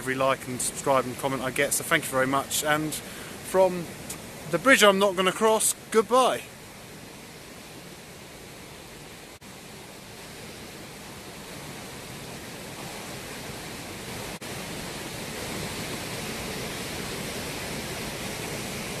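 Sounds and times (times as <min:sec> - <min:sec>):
river pouring over weirs: 0:00.0 - 0:19.0.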